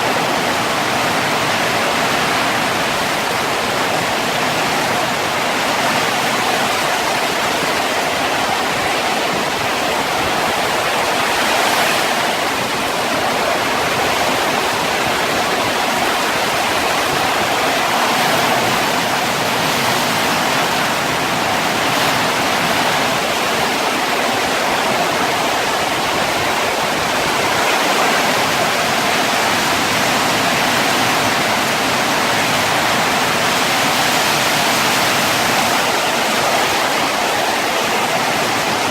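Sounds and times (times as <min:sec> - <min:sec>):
heavy rain in strong wind: 0:00.0 - 0:38.9.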